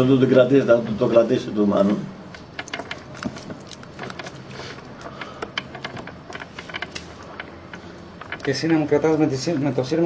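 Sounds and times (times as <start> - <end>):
wire clicks and scrapes: 1.9 - 10.0.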